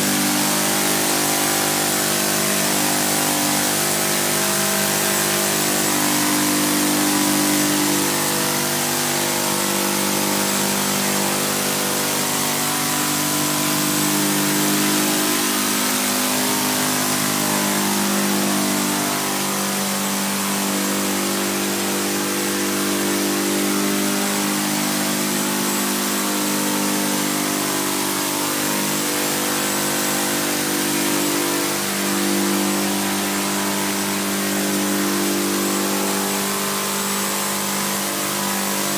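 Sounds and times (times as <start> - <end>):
drone engine and propellers: 0.0 - 38.9.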